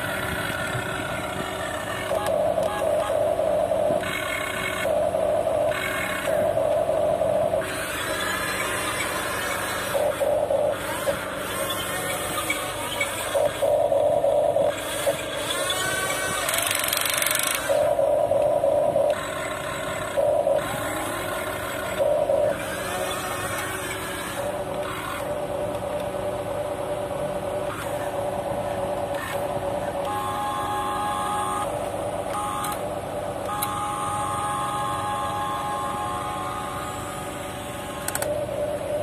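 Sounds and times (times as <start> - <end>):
small electric motors whining: 0.0 - 25.8, 27.6 - 32.8, 33.4 - 39.0.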